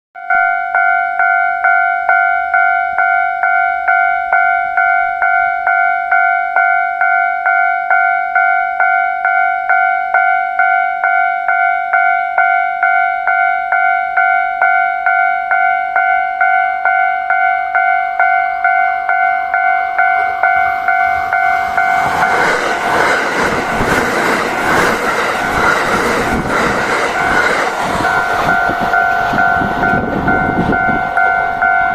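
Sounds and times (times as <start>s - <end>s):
level crossing warning bell: 0.2s - 31.9s
electric train passing: 0.3s - 31.9s.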